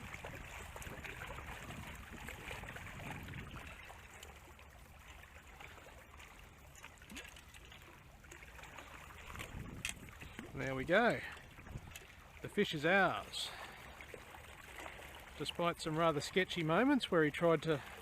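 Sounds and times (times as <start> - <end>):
water lapping among rocks: 0.0 - 18.0.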